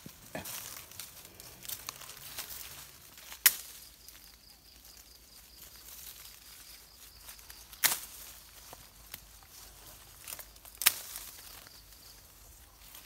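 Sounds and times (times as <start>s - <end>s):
leaves and branches rustling: 0.0s - 13.0s.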